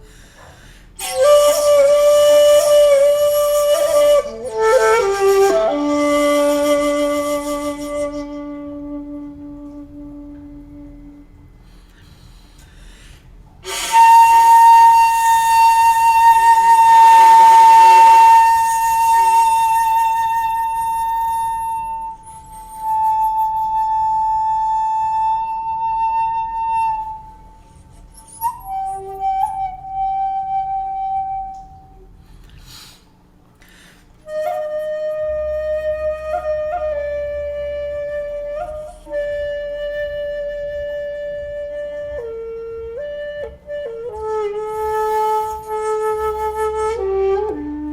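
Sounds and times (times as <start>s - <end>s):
bamboo flute long held notes: 0.0s - 32.9s, 34.2s - 47.9s.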